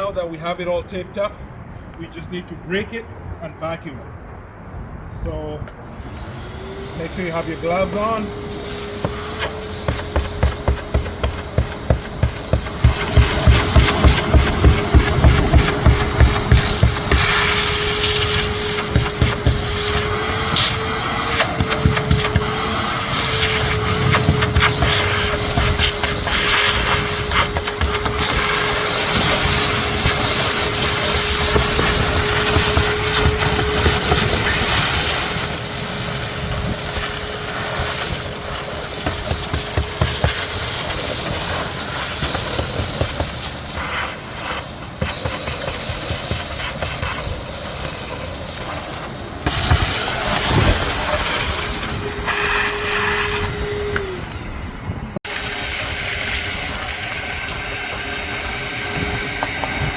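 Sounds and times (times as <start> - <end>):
vacuum cleaner running: 5.9 - 59.9.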